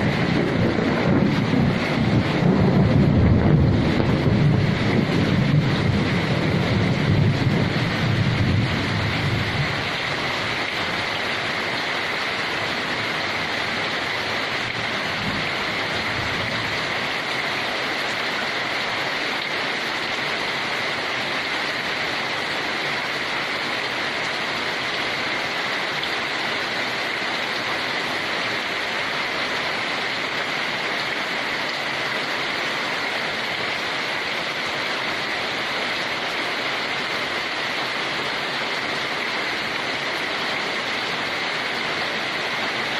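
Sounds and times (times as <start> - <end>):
heavy rain hiss: 0.0 - 42.9.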